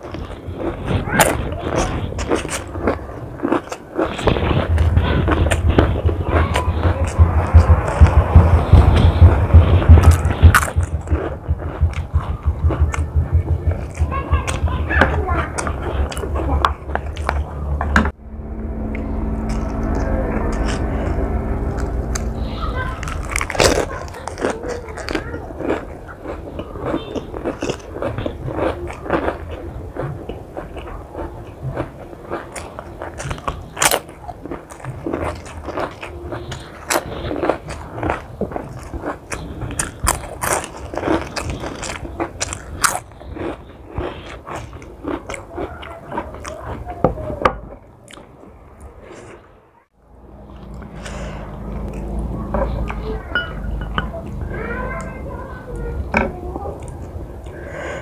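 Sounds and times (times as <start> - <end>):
chewing crunchy food: 0.0 - 18.1, 19.4 - 49.4, 50.5 - 58.0.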